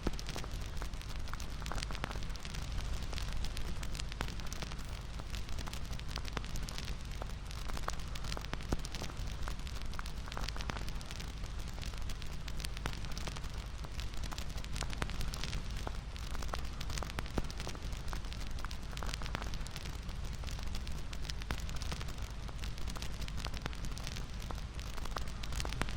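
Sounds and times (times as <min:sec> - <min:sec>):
bonfire crackling and popping: 0:00.0 - 0:25.9.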